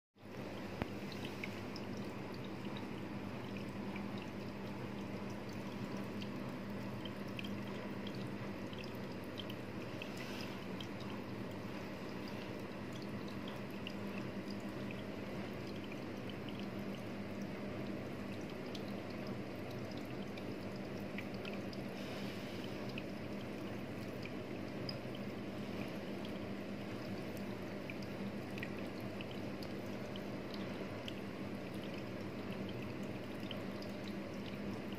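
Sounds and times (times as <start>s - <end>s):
drip-like ticks: 0.2s - 34.9s
low steady hum: 0.2s - 34.9s
water trickling and bubbling: 0.2s - 34.9s.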